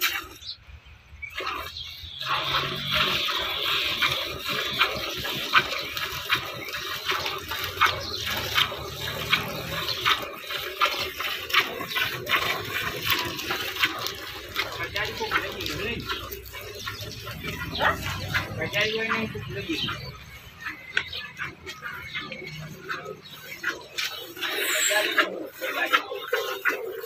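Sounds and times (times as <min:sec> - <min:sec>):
milk squirting into metal bucket: 0:01.3 - 0:27.0.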